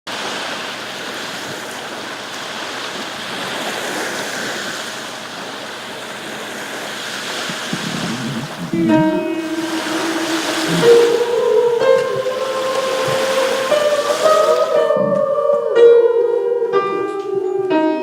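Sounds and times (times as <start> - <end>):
waves washing on shore: 0.1 - 15.4.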